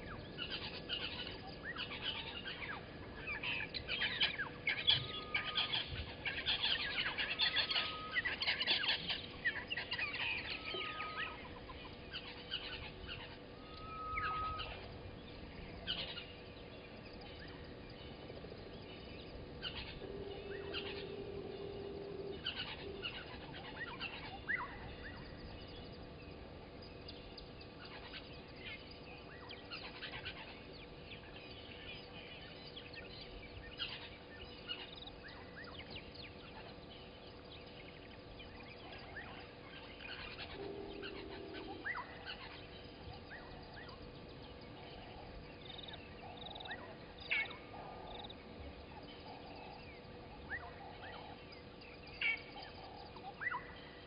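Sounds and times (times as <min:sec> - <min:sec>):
birds chirping and whistling: 0:00.0 - 0:54.0
faint steady hum: 0:00.0 - 0:54.0.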